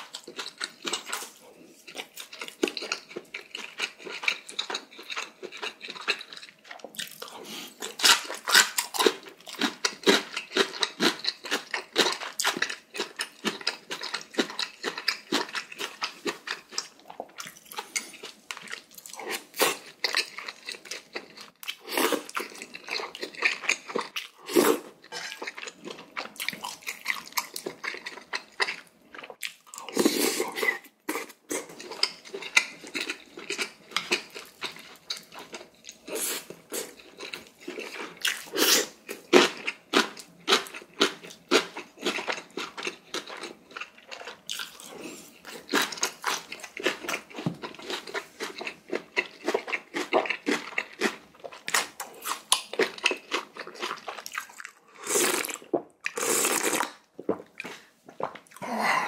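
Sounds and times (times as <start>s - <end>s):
wet chewing: 0.0s - 58.6s.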